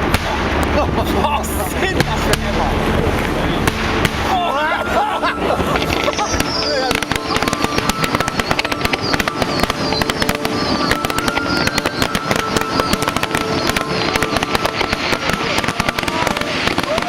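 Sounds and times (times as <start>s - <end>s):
fireworks crackling and banging: 0.0s - 17.0s
held tones: 1.1s - 17.0s.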